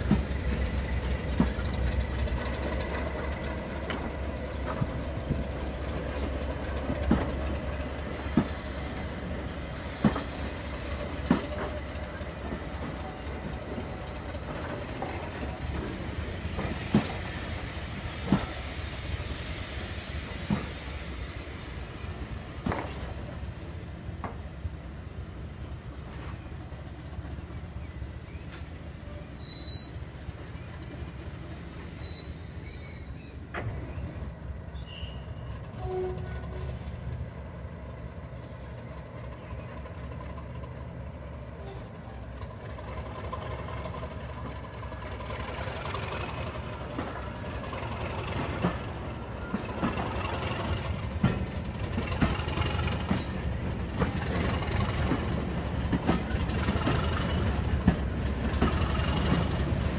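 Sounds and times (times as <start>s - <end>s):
low train rumble: 0.0s - 59.9s.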